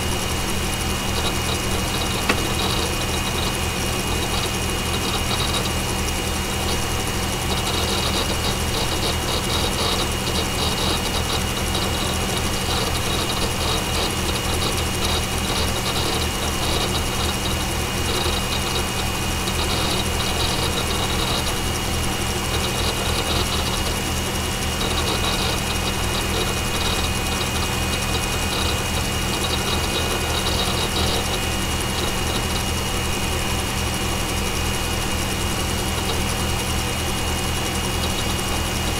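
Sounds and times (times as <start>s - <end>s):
computer fans humming: 0.0s - 38.9s
hard drive clicking and crunching: 0.0s - 38.9s.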